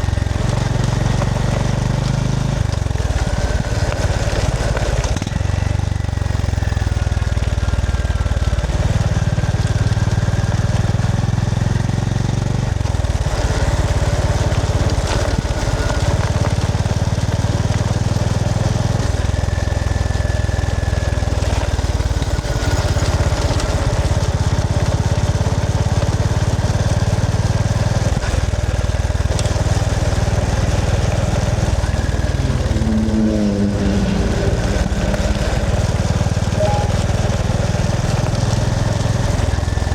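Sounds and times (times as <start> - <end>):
single-cylinder motorcycle engine: 0.0 - 39.9.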